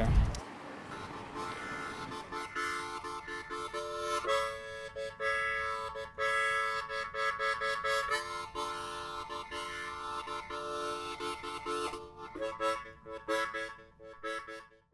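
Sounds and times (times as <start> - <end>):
harmonica melody: 0.9 - 14.9.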